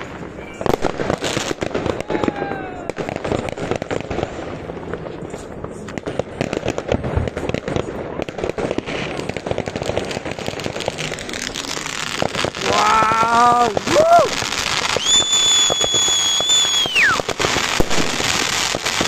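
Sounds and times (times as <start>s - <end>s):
fireworks and firecrackers banging: 0.0s - 19.0s.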